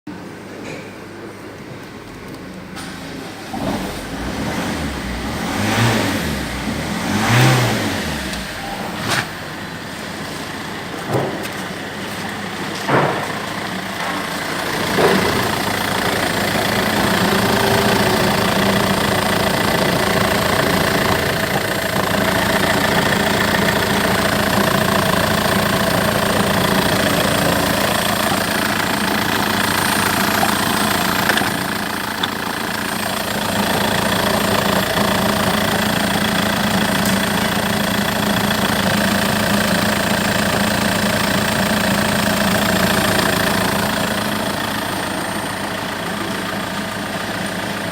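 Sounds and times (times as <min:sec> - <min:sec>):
diesel engine revving and idling: 0:02.7 - 0:47.9
engine knocks: 0:02.8 - 0:47.6.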